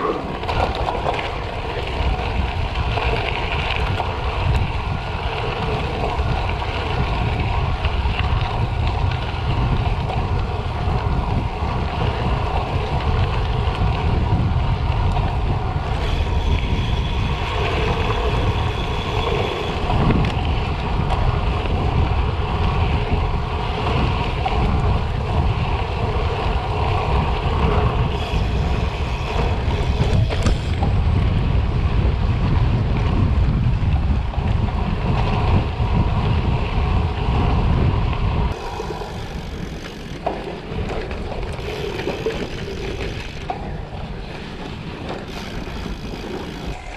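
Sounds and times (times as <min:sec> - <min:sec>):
bike tyres rolling: 0:00.0 - 0:46.9
wind buffeting microphone: 0:00.0 - 0:46.9.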